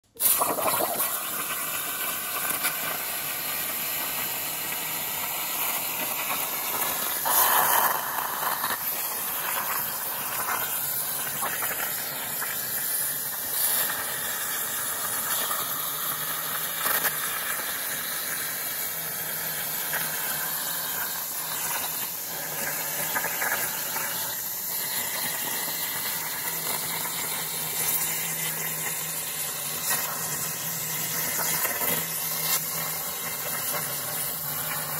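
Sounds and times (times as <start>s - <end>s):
plasma torch hissing: 0.2s - 34.9s.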